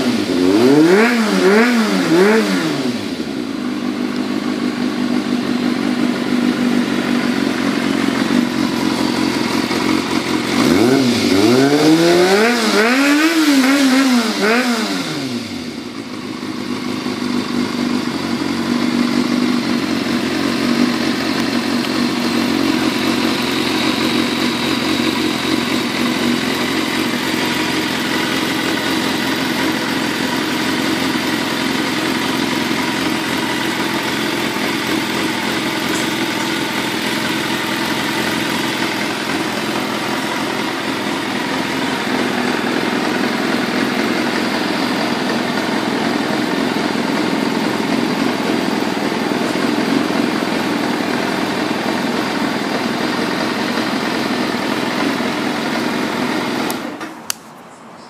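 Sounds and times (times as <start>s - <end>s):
motorcycle engine idling: 0.0s - 57.2s
motorcycle engine revving: 0.0s - 57.4s.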